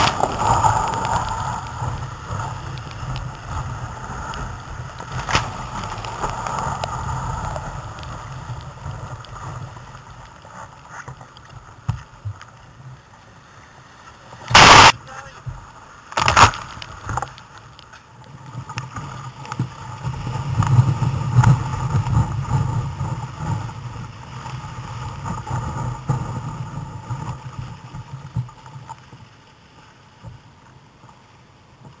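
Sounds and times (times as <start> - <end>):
surf rushing and splashing: 0.0 - 32.0.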